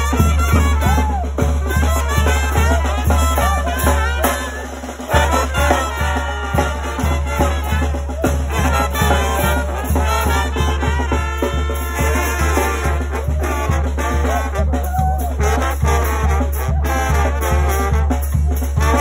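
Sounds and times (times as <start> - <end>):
bass drum beat: 0.0 - 19.0
trumpets playing dance tune: 0.0 - 19.0.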